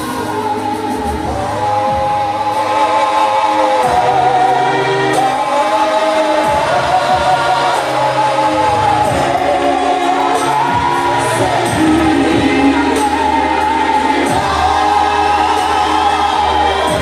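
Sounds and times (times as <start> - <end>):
choir singing: 0.0 - 17.0
low bass notes: 0.0 - 17.0.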